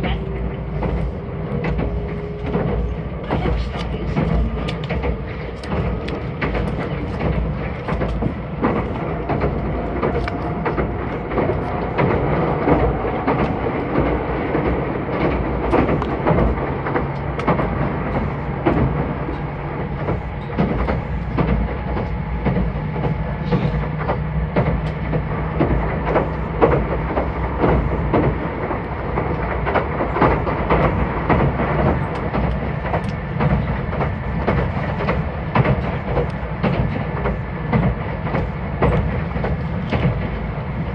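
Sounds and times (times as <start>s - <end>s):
electric train running: 0.0s - 40.9s
wheels clicking over rail joints: 0.0s - 40.9s.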